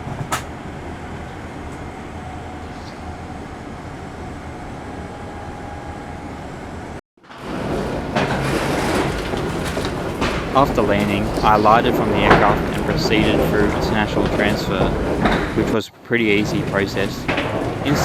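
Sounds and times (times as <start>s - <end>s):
busy noise: 0.0s - 18.0s
cabin ventilation rumble: 0.0s - 18.0s.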